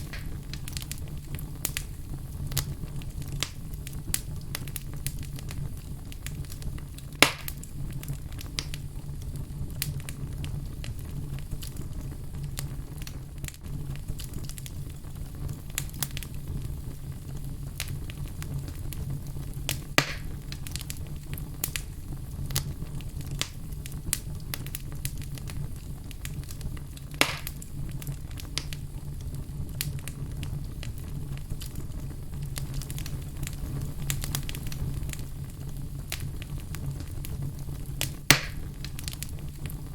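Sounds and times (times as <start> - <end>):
sharp pops from fire: 0.0 - 39.9
wood fire crackling: 0.0 - 39.9.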